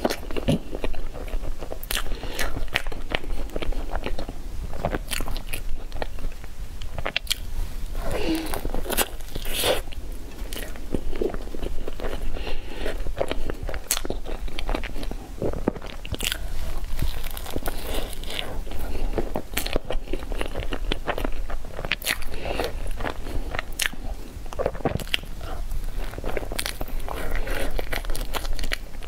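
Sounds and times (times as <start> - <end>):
woman chewing cake: 0.0 - 29.0.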